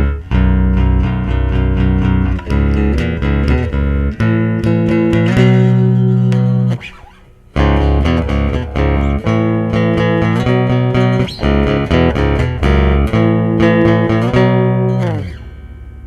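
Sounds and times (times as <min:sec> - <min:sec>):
bass line: 0:00.0 - 0:16.0
plucked guitar music: 0:00.0 - 0:16.0.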